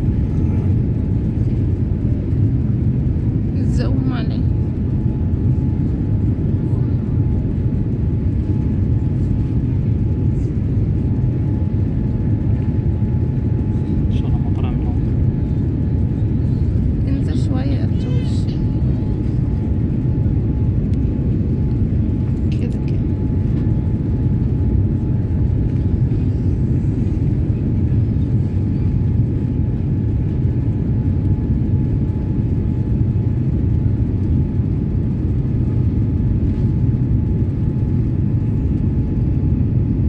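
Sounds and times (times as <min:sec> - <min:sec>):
airliner engines and airflow rumble: 0:00.0 - 0:40.0.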